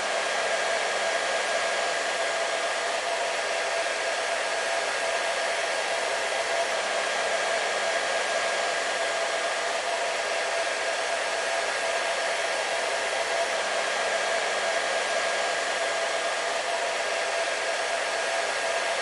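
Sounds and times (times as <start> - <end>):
hair dryer running: 0.0 - 19.0.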